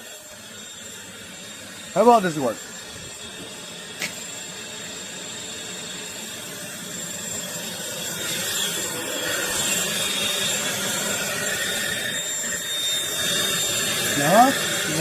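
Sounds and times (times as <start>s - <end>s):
stick vacuum whirring: 1.9s - 15.0s.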